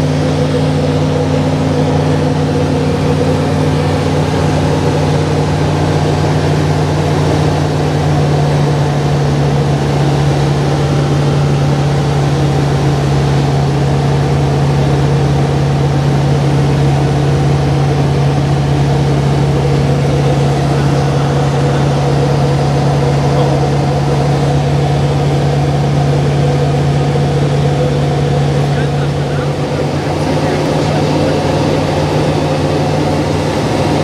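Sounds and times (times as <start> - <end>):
aircraft engine and propeller droning: 0.0 - 34.0.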